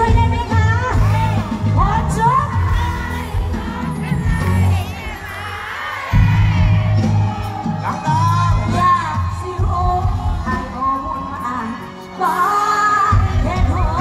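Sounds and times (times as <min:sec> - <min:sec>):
woman singing: 0:00.0 - 0:06.7, 0:08.6 - 0:14.0
band with heavy bass and drums: 0:00.0 - 0:14.0.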